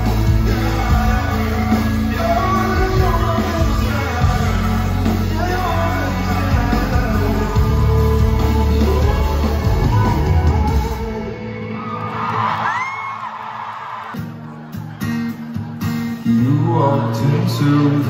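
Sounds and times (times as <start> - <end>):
live rock band with singing: 0.0 - 13.3, 14.0 - 18.0.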